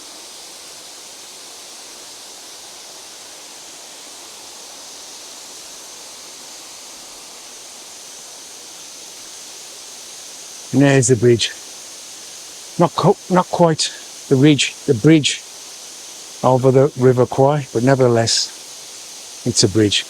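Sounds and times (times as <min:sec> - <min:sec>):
waterfall rushing: 0:00.0 - 0:20.0
thin steady high tone: 0:00.8 - 0:20.0.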